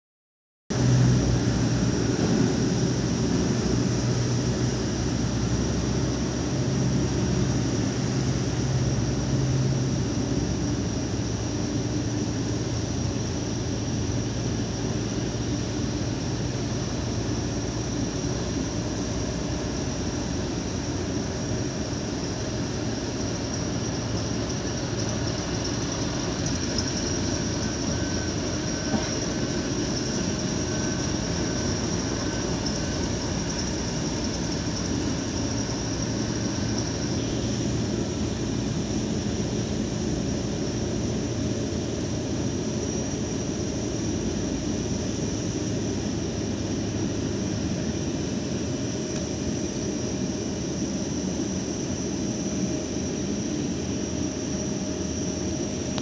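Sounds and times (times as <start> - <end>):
high engine whine: 0.7 - 56.0
jet engine hum: 0.7 - 56.0.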